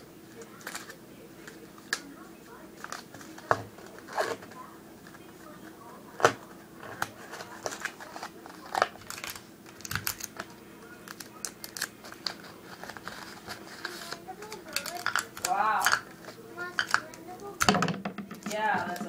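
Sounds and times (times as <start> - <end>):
paper rustling and crinkling: 0.3 - 17.6
tape clicks and crackles: 0.3 - 19.0.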